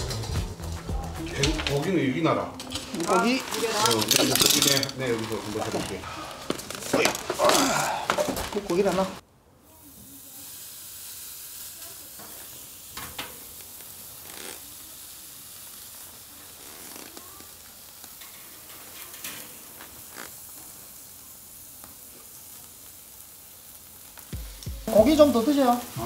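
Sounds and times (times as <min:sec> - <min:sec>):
meat sizzling on a grill: 0:00.0 - 0:26.0.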